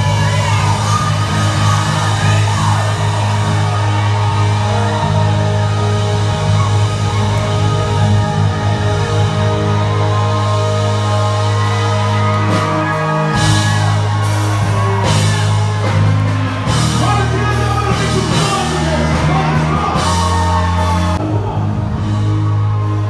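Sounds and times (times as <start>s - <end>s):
crowd shouting and whooping: 0.0s - 23.0s
loud party music with singing: 0.0s - 23.0s.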